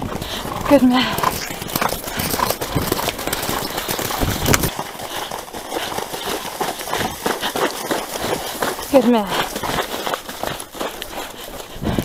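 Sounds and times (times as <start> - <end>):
horse hoofbeats on wet grass: 0.0 - 12.0.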